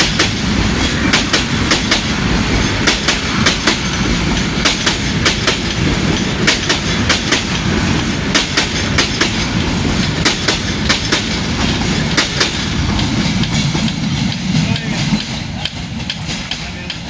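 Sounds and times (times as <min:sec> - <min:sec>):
train rolling past rumbling: 0:00.0 - 0:17.0
wheels clacking over rail joints: 0:00.0 - 0:17.0.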